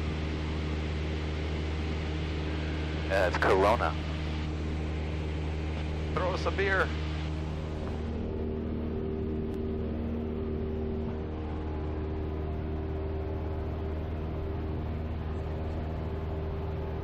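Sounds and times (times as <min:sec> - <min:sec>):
propeller aircraft engine drone: 0:00.0 - 0:17.0.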